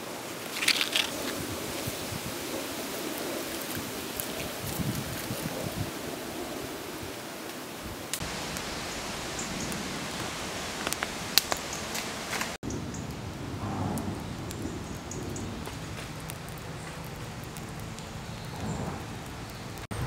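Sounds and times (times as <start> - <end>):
fire crackles and pops: 0.0 - 20.0
wood fire hissing: 0.0 - 20.0.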